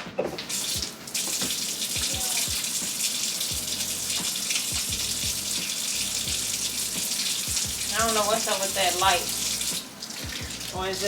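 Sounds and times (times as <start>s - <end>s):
faucet running into a sink: 0.4s - 11.0s.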